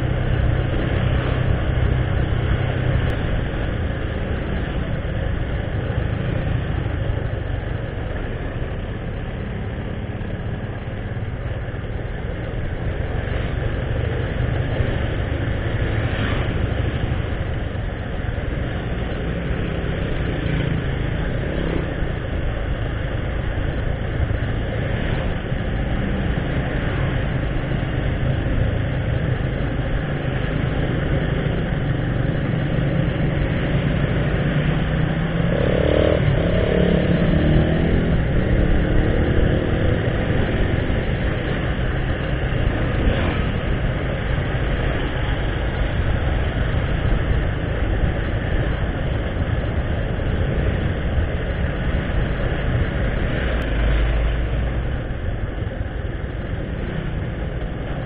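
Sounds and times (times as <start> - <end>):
motorcycle engine drone: 0.0 - 58.0
road noise: 0.0 - 58.0.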